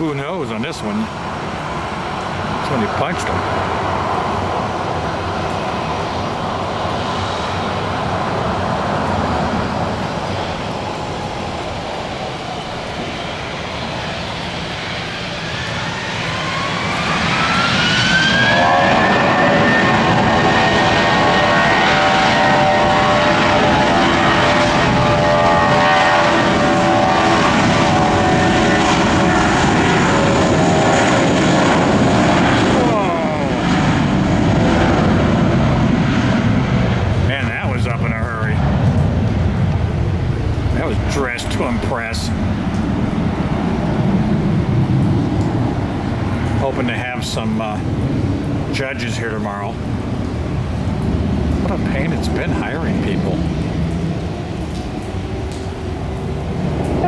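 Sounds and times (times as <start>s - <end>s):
faint engine whine: 0.0s - 57.0s
jet engines running: 0.0s - 57.0s.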